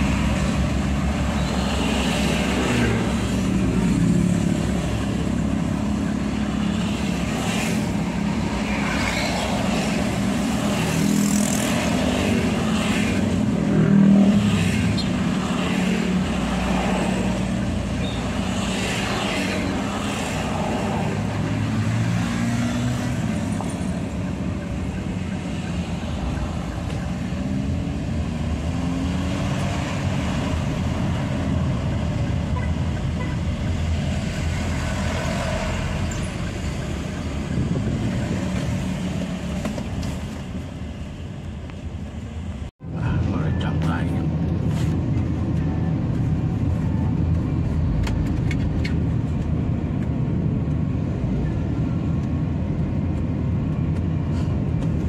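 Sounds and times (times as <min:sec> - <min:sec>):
road noise: 0:00.0 - 0:55.0
vehicle engine: 0:00.0 - 0:55.0.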